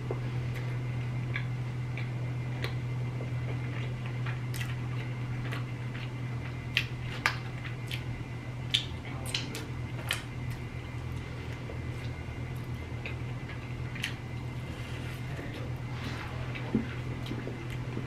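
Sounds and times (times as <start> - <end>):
steady low hum: 0.0 - 18.0
chewing chicken wings: 0.1 - 15.8.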